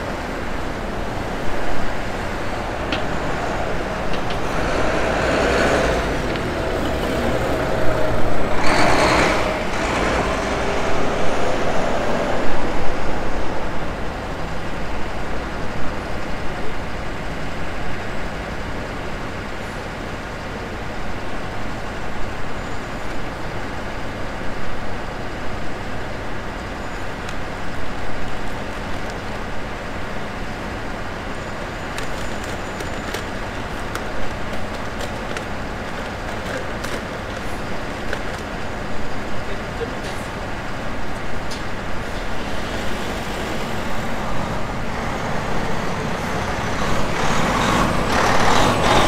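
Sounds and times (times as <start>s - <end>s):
road vehicles passing: 0.0s - 49.0s.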